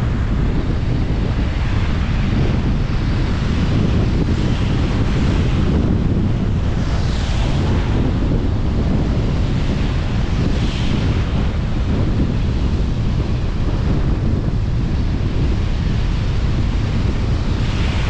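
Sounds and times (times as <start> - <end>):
car tyre and wind noise: 0.0 - 18.0.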